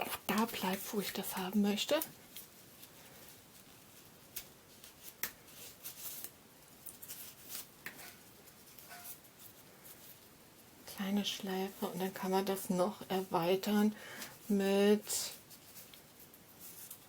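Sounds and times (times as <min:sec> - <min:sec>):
rustling of craft materials: 0:00.0 - 0:17.0.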